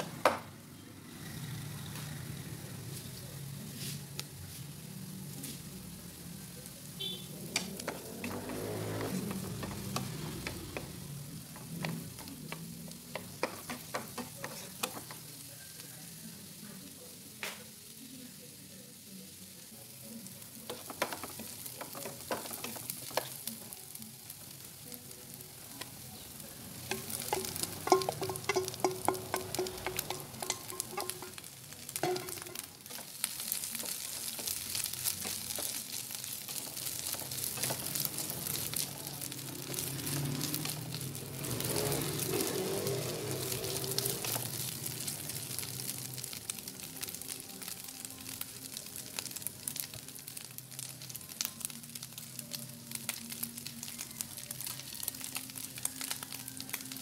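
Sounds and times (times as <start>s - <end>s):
onion sizzling in butter: 0.0s - 57.0s.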